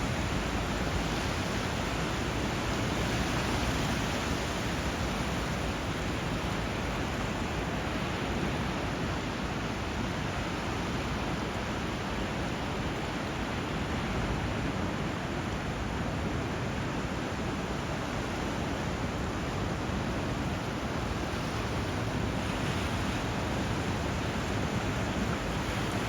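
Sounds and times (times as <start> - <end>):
rushing river water: 0.0 - 26.0.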